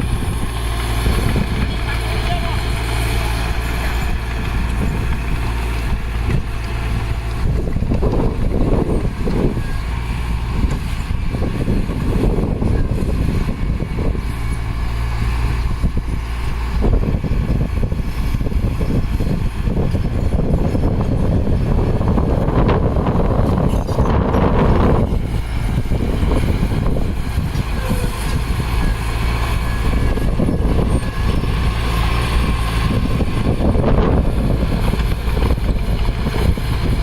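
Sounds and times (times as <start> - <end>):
diesel machinery engine drone: 0.0 - 37.0
noisy engine surges: 0.0 - 37.0.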